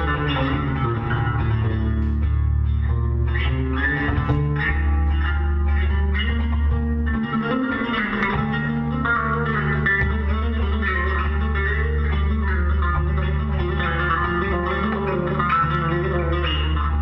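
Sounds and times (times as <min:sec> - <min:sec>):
electric bass guitar melody: 0:00.0 - 0:17.0.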